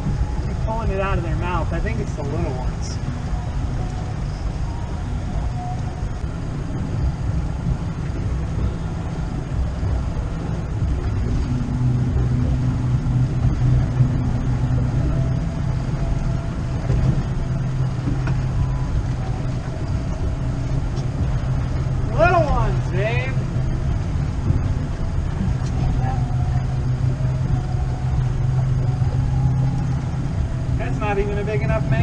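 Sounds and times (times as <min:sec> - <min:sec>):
low engine hum: 0:00.0 - 0:32.0
wind rumbling on microphone: 0:00.0 - 0:32.0.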